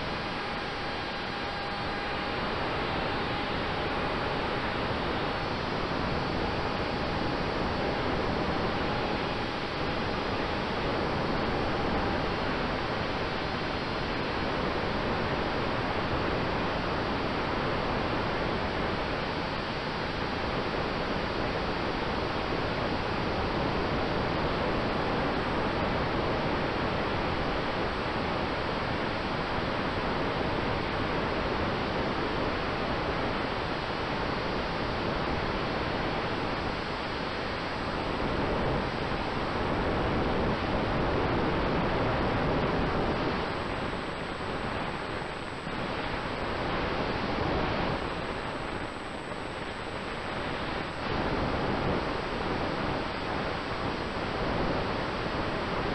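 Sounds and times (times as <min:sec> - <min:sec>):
faint steady tone: 0:00.0 - 0:55.9.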